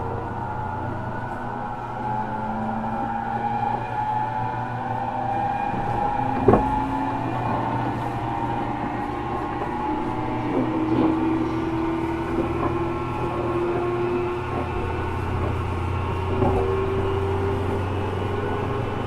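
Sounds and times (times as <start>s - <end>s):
electric train running: 0.0s - 19.0s
train motor tones: 0.0s - 19.0s.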